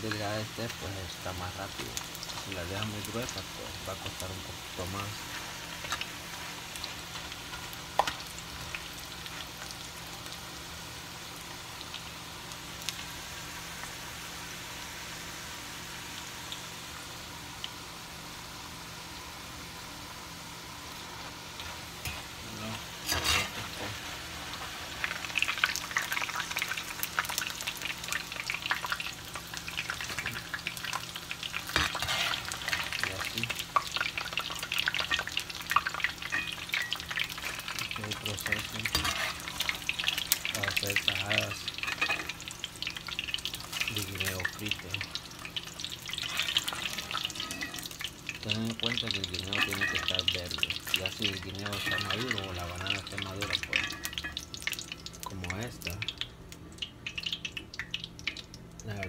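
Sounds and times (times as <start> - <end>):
banana slices sizzling in oil: 0.0 - 59.0.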